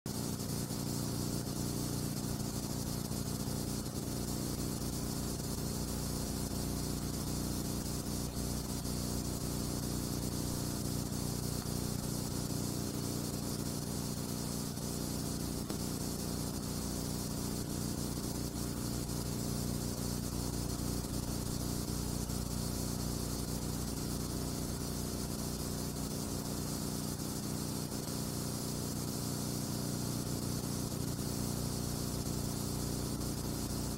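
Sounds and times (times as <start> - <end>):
low electrical hum: 0.1 - 33.9
steady hiss: 0.1 - 33.9.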